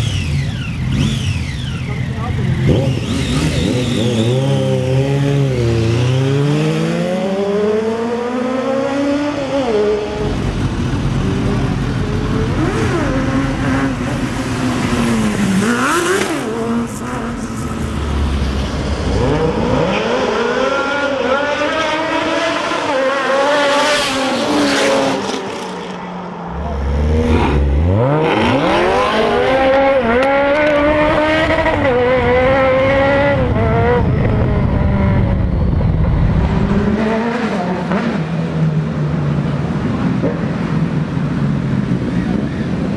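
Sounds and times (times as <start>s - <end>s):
motorcycle engines accelerating: 0.0s - 42.9s.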